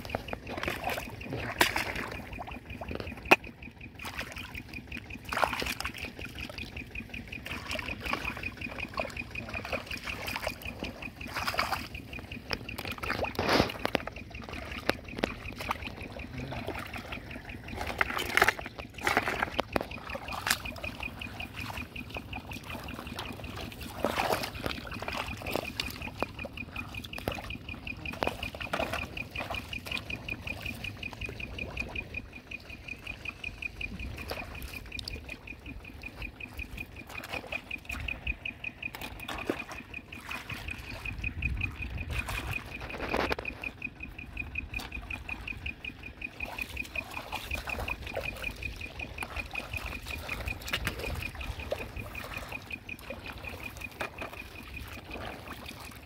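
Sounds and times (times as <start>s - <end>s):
hands splashing in muddy water: 0.0s - 32.0s, 33.1s - 43.8s, 46.3s - 56.0s.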